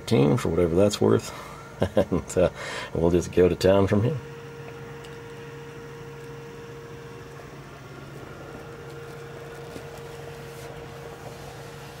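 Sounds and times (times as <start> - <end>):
low two-tone hum: 0.0 - 12.0.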